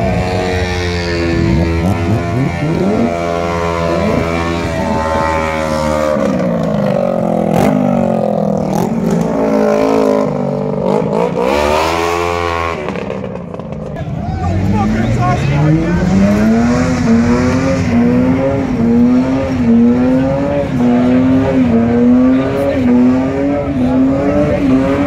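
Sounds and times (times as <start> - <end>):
engine revving hard: 0.0 - 6.7, 7.4 - 13.0, 14.8 - 25.0.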